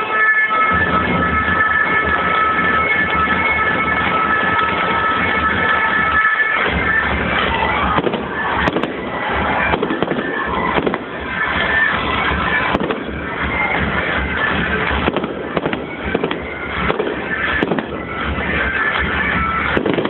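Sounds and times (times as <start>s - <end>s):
fireworks bursting and crackling: 0.0s - 20.0s
music with held high notes: 0.0s - 20.0s
low firework thuds: 0.6s - 20.0s.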